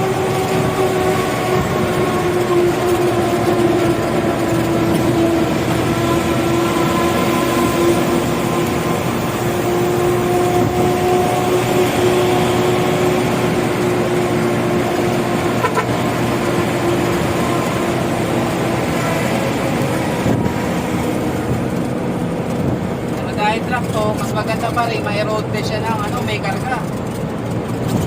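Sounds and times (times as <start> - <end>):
diesel truck engine driving: 0.0 - 28.0
road noise: 0.0 - 28.0.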